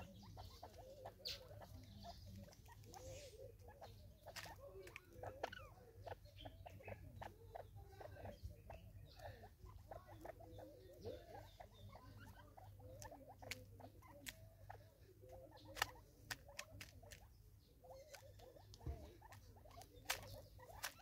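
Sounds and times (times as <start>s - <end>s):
beaks pecking plastic feeder: 0.0s - 21.0s
birds calling and chattering: 0.0s - 21.0s.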